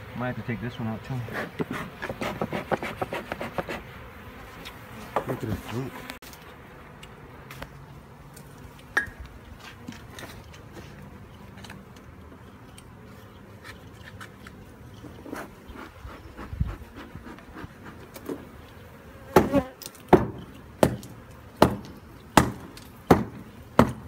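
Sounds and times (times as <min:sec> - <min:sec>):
bees humming: 0:00.0 - 0:17.0, 0:17.6 - 0:24.0.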